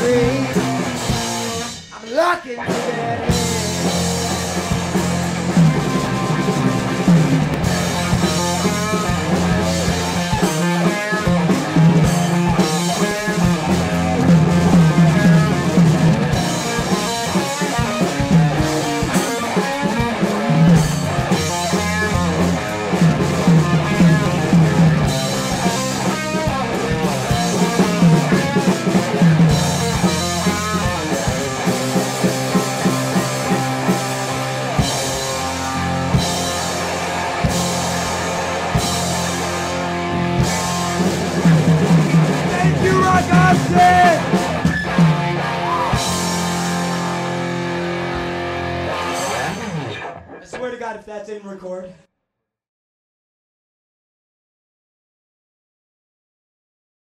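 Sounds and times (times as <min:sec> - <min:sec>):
bass guitar: 0:00.0 - 0:50.6
electric guitar: 0:00.0 - 0:50.6
drum kit: 0:00.0 - 0:51.0
keyboard: 0:02.8 - 0:50.2.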